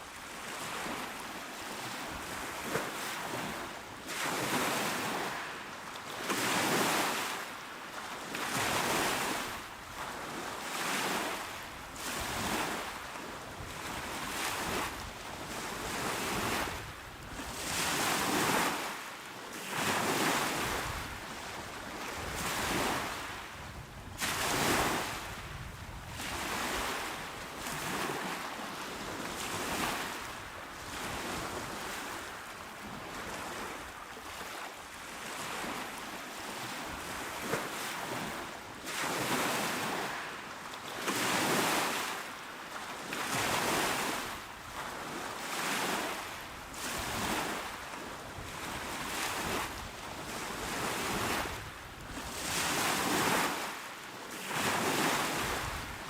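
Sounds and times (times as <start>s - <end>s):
small waves washing onto shore: 0.0s - 56.0s.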